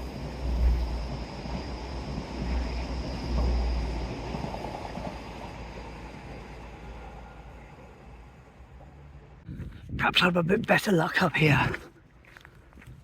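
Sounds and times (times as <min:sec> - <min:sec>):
wind rumbling and gusting: 0:00.0 - 0:10.9.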